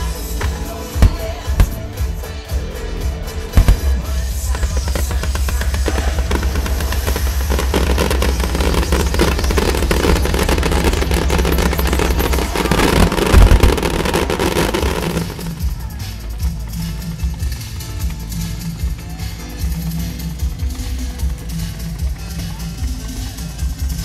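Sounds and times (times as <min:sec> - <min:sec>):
fireworks crackling and popping: 0:00.0 - 0:24.0
show music: 0:00.0 - 0:24.0.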